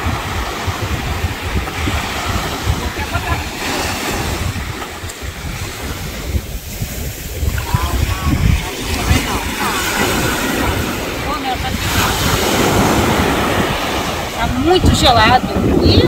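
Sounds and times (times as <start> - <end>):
sea surf washing up beach: 0.0 - 16.0
wind buffeting microphone: 0.0 - 16.0.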